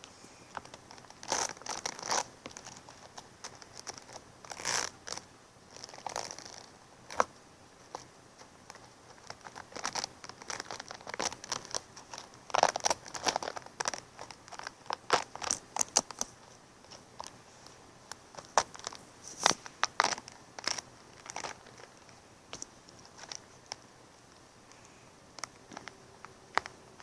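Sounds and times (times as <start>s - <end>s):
crinkling and crackling: 0.0s - 27.0s.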